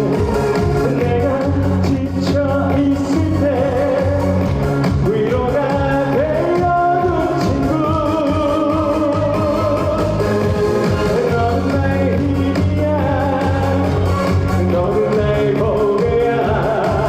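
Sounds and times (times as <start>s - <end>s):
backing track with steady beat: 0.0s - 17.0s
person singing: 0.0s - 17.0s.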